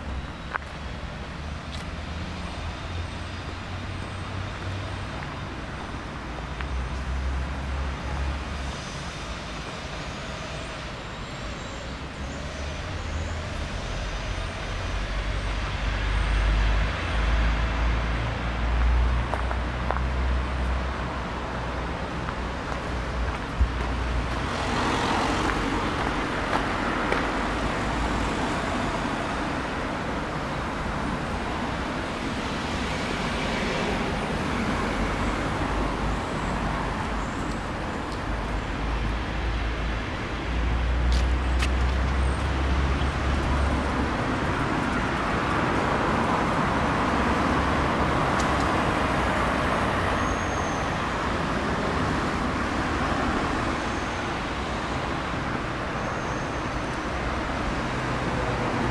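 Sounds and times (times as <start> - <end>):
passing cars: 0.0 - 58.9.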